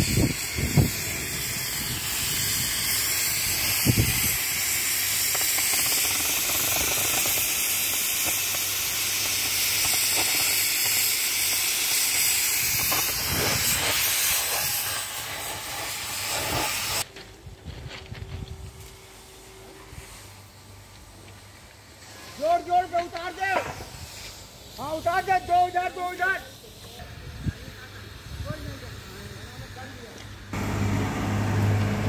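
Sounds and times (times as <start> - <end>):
gas cutting torch hissing: 0.0 - 17.1, 18.7 - 30.7.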